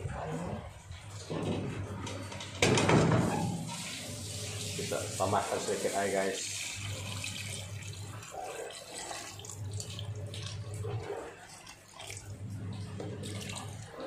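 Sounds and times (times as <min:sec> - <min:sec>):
water pouring and splashing: 0:02.3 - 0:14.0.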